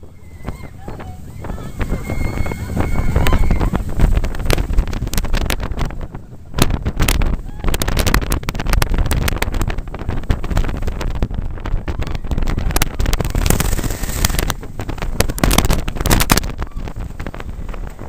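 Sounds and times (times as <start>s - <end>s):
roller coaster rattling on track: 0.0s - 18.0s
wind buffeting microphone: 0.0s - 18.0s.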